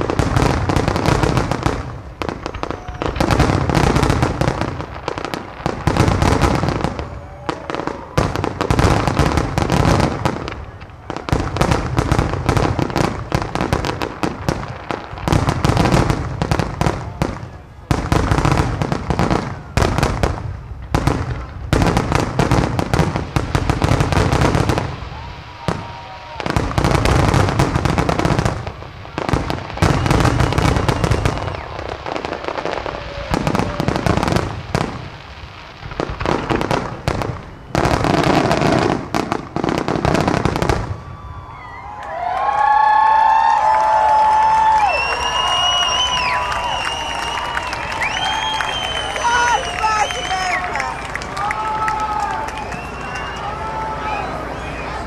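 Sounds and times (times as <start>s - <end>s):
firework bangs and crackles: 0.0s - 55.0s.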